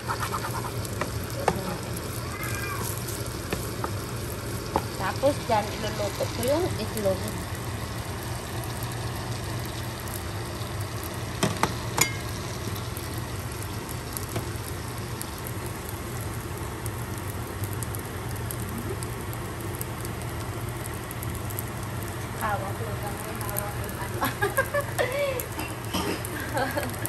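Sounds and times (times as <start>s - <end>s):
constant low hum: 0.0s - 27.0s
rice sizzling in a pan: 0.0s - 27.0s.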